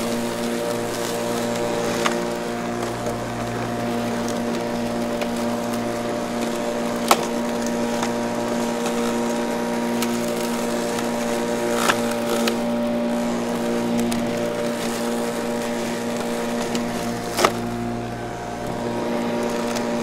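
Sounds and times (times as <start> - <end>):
electric lawn mower humming: 0.0 - 20.0.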